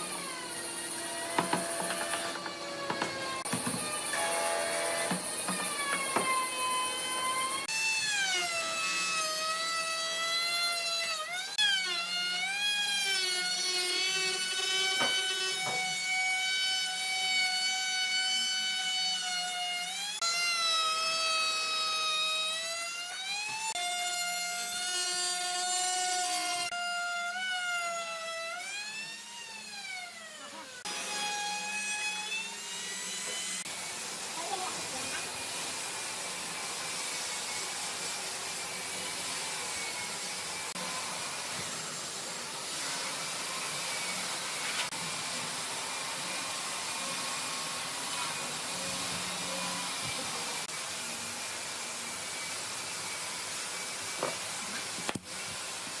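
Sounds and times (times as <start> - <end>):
power tool motor cutting wood: 0.0 - 51.2.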